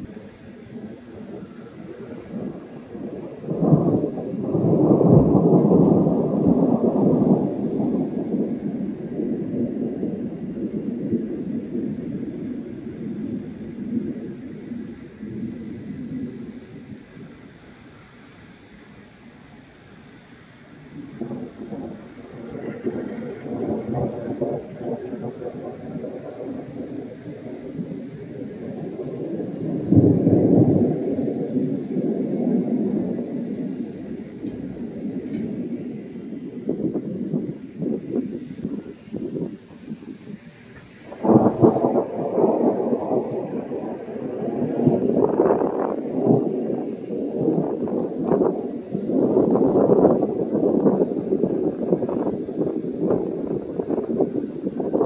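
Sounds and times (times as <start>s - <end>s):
thunder clap and rumble: 0.0s - 55.0s.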